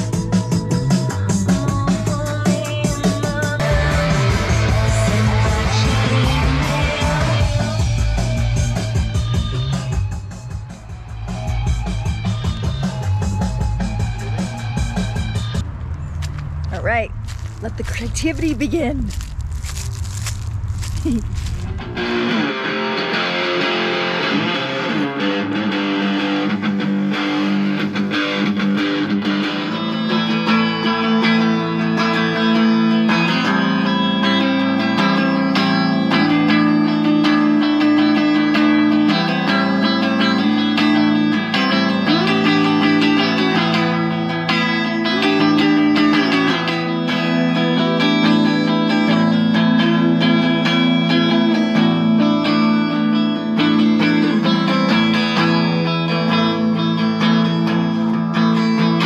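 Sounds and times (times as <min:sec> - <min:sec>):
overdriven electric guitar melody: 0:00.0 - 0:15.6, 0:19.2 - 0:59.0.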